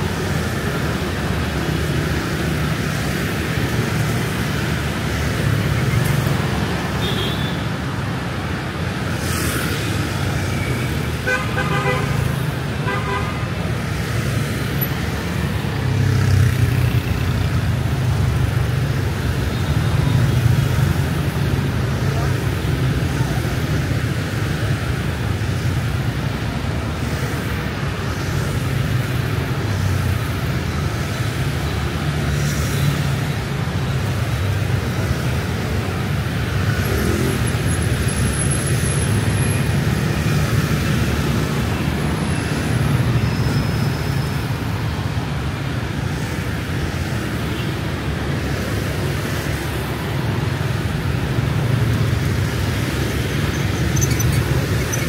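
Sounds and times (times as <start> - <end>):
city street traffic: 0.0 - 55.0.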